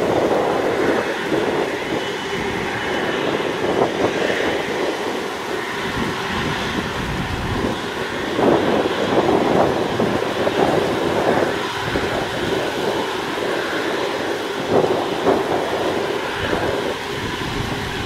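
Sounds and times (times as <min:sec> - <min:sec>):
jet engines taxiing: 0:00.0 - 0:18.0.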